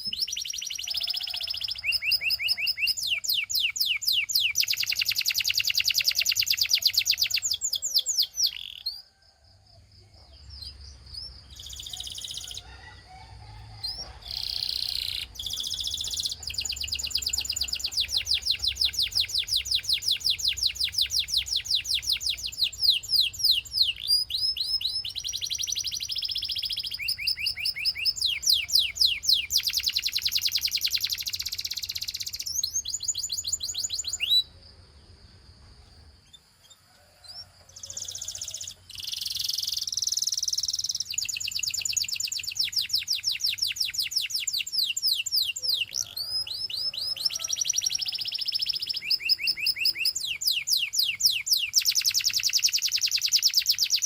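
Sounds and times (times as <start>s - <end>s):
canary singing fast trills: 0.0s - 34.9s, 36.0s - 54.0s.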